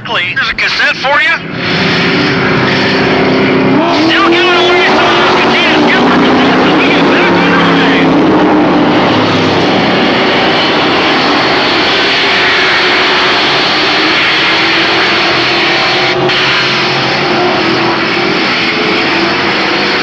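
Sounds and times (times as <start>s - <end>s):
racing truck engines droning: 0.0s - 20.0s.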